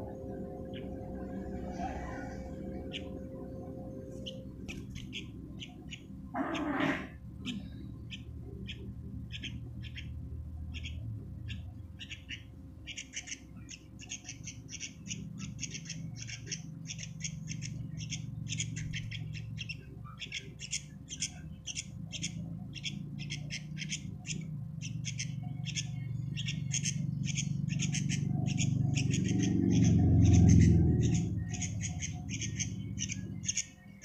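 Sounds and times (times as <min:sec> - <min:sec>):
bird chicks chirping: 0:00.0 - 0:06.8, 0:07.4 - 0:34.0
steady low hum: 0:00.0 - 0:34.0.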